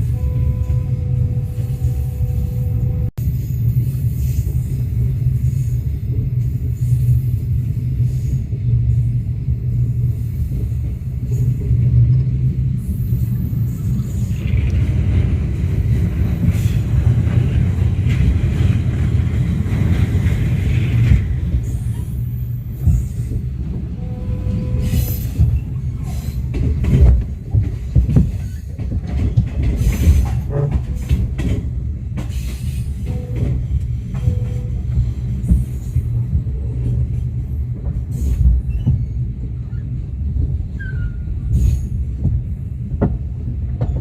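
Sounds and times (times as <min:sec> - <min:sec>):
train coach rumbling on rails: 0:00.0 - 0:44.0.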